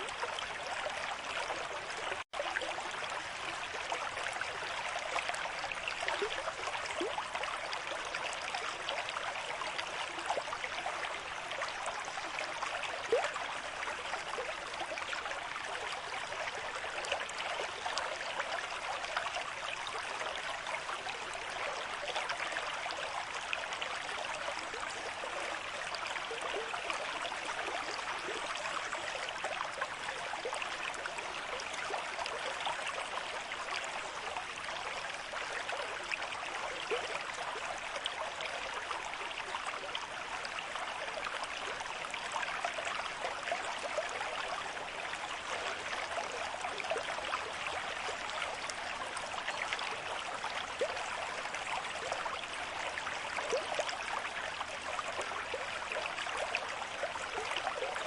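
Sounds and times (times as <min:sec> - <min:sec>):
stream water rushing and gurgling: 0:00.0 - 0:58.0.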